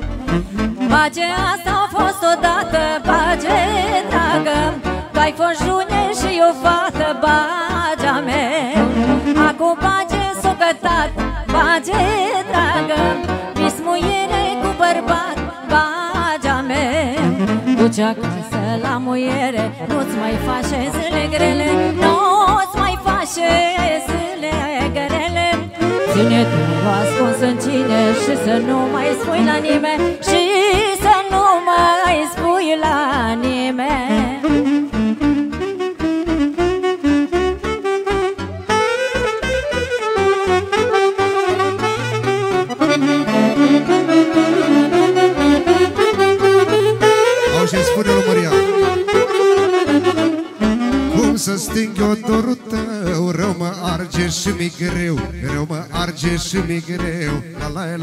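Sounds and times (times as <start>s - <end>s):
saxophone melody with vibrato: 0.0s - 53.0s.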